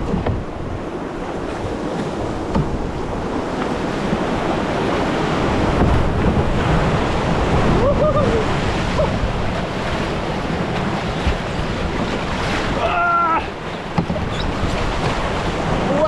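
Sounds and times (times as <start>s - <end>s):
wind buffeting microphone: 0.0s - 16.0s
river rapids rushing: 2.1s - 16.0s.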